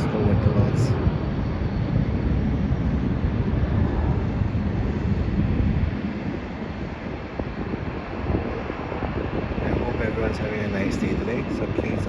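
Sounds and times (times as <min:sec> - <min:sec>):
jet airliner taking off: 0:00.0 - 0:12.0
wind buffeting microphone: 0:00.0 - 0:12.0.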